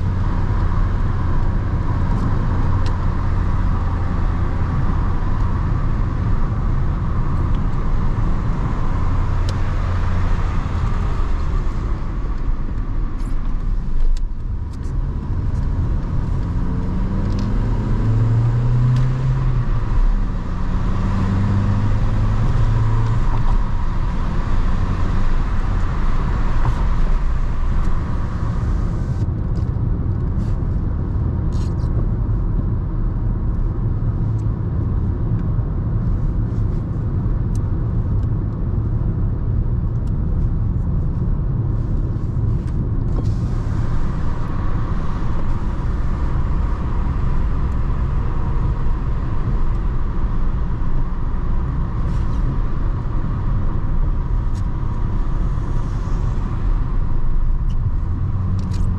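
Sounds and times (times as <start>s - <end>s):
car engine and road rumble: 0.0s - 58.9s.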